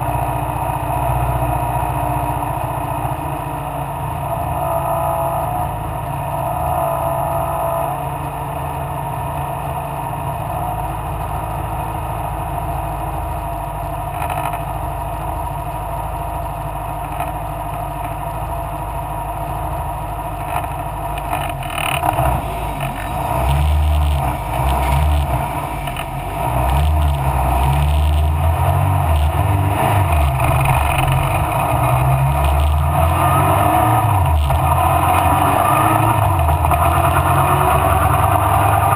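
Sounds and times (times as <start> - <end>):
racing car engine running hard: 0.0 - 38.9.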